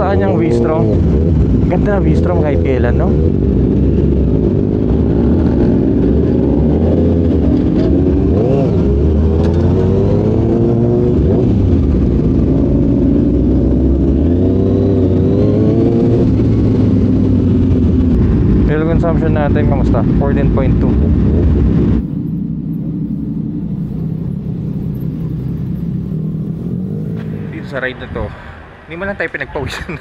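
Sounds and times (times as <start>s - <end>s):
motorcycle engine revving: 0.0s - 28.2s.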